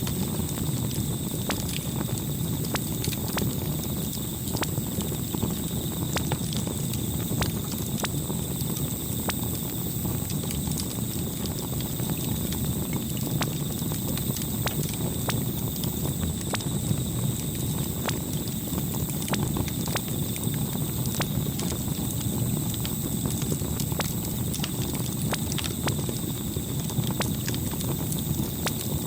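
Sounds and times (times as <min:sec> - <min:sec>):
campfire flames rumbling: 0:00.0 - 0:29.0
fire crackling and popping: 0:00.0 - 0:29.0.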